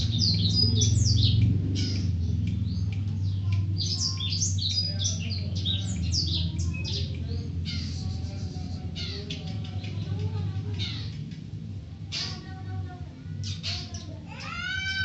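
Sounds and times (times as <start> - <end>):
bird singing rapid chirps: 0.0 - 12.6, 13.3 - 15.0
low steady hum: 0.0 - 15.0.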